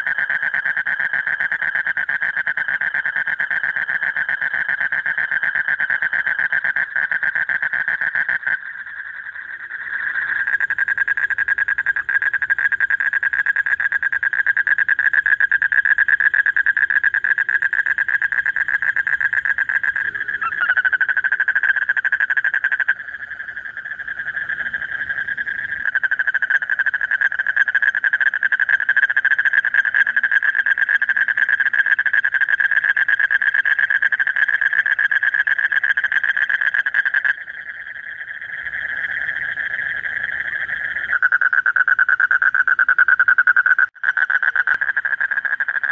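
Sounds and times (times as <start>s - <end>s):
toads pulsed trill: 0.0s - 45.9s.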